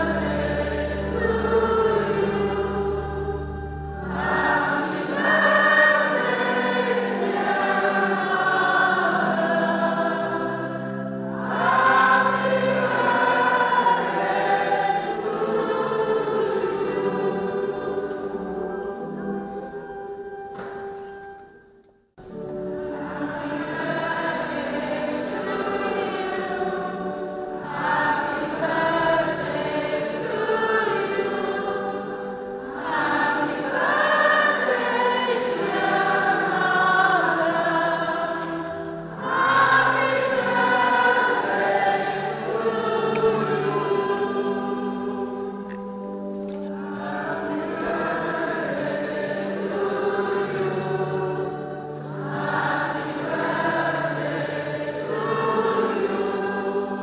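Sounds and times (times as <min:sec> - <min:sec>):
choir singing: 0:00.0 - 0:20.8, 0:22.3 - 0:57.0.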